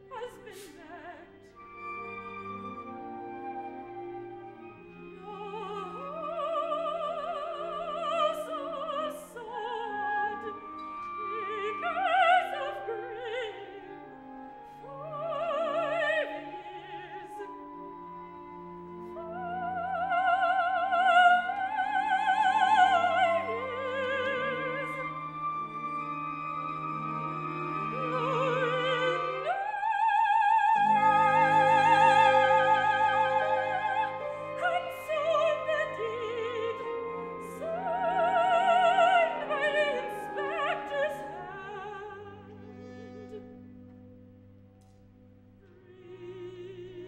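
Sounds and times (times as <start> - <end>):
opera singing with vibrato: 0.0 - 43.4, 45.7 - 47.0
chamber orchestra chords: 0.0 - 44.9.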